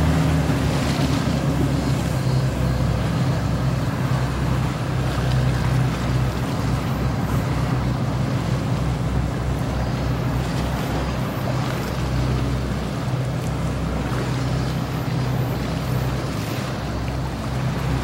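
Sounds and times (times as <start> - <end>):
boat engine droning: 0.0 - 18.0
water rushing past hull: 0.0 - 18.0
wind: 0.0 - 18.0.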